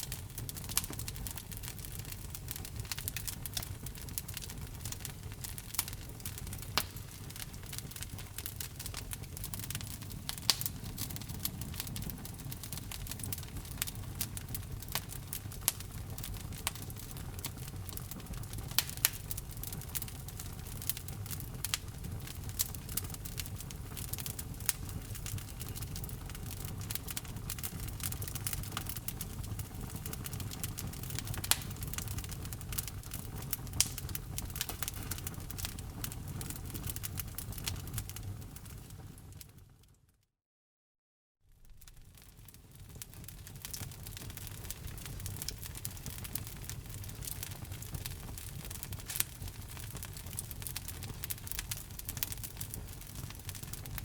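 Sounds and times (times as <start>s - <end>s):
fire rumbling: 0.0s - 39.8s, 41.5s - 54.0s
fire crackling and popping: 0.0s - 39.9s, 41.5s - 54.0s.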